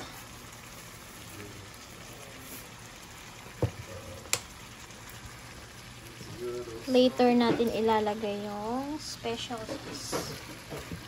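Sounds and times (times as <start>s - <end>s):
shrimp sizzling in a pan: 0.0s - 11.0s.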